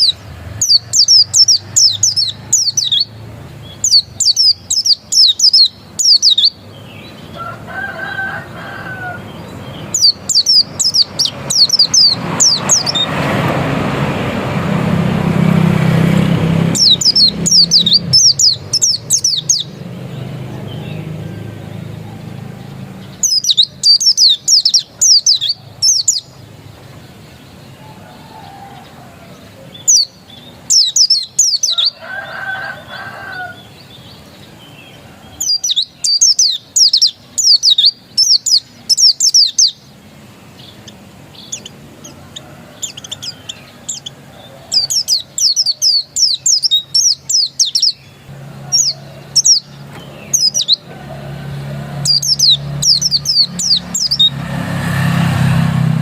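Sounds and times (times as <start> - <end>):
bird twittering song: 0.0 - 13.5, 16.2 - 55.8.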